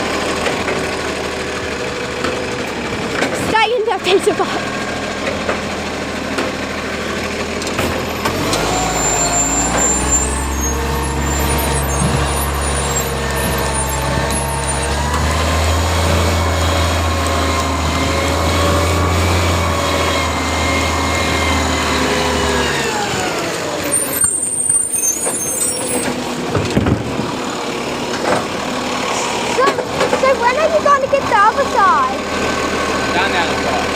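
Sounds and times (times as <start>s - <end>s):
truck diesel engine revving: 0.0s - 33.9s.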